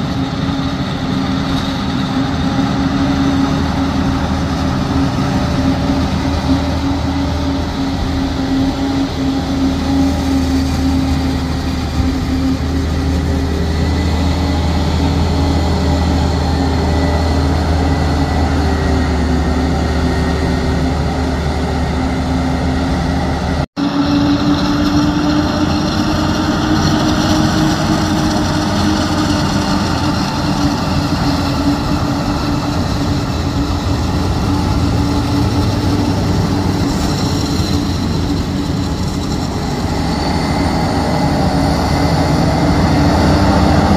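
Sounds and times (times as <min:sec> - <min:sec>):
heavy machine drone: 0:00.0 - 0:43.9.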